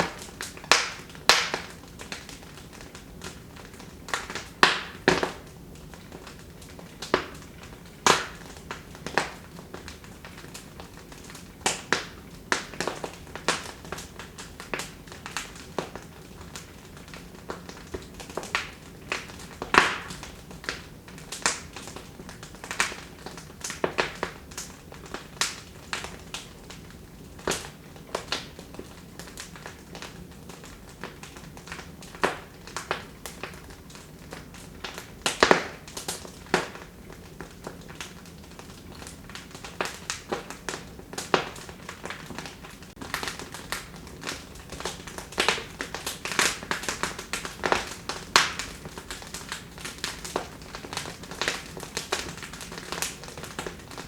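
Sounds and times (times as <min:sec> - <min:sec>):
fire pops and snaps: 0:00.0 - 0:54.0
wood fire crackling: 0:00.0 - 0:54.0.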